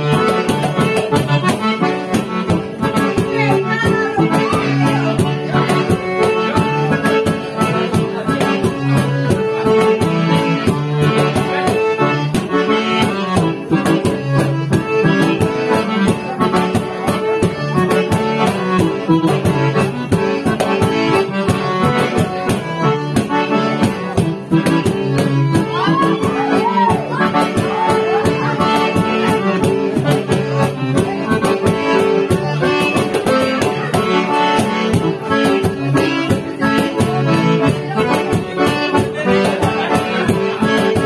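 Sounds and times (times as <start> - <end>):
accordion playing lively tune: 0.0 - 41.0.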